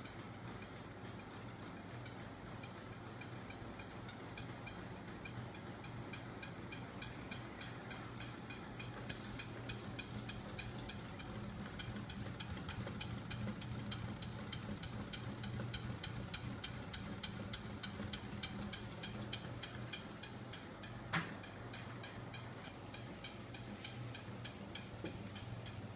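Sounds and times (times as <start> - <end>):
electric motor hum with ticks: 0.0 - 25.9.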